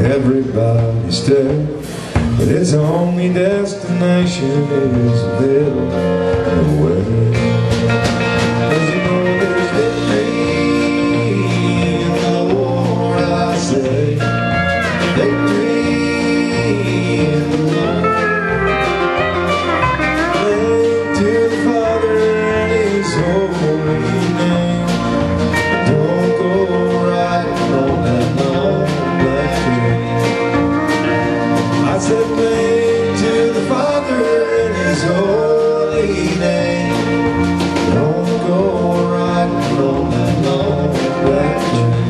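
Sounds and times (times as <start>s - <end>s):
bass: 0.0s - 42.0s
steady drum beat: 0.0s - 42.0s
lead guitar line with bending notes: 3.4s - 42.0s.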